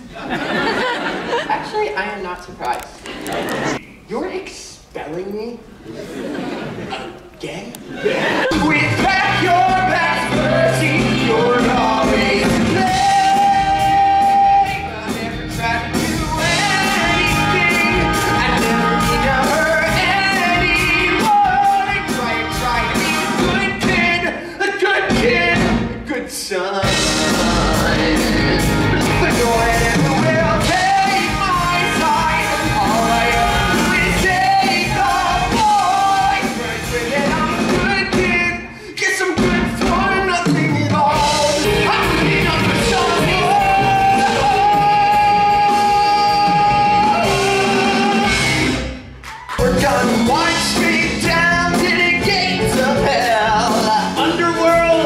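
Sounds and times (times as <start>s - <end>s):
live rock band: 8.2s - 24.2s, 25.1s - 26.0s, 26.8s - 38.7s, 39.3s - 55.0s
man singing rock song: 8.6s - 25.7s, 26.5s - 48.8s, 49.6s - 55.0s.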